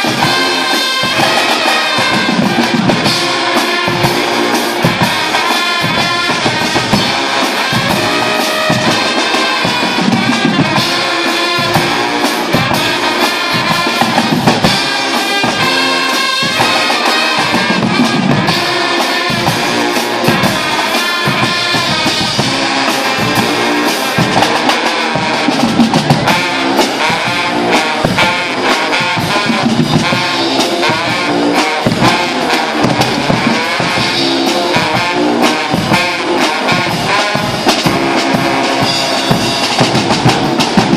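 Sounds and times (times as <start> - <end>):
bass drums snare and cymbals: 0.0 - 40.9
brass band playing carnival music: 0.0 - 40.9
trumpets and trombones: 0.0 - 40.9.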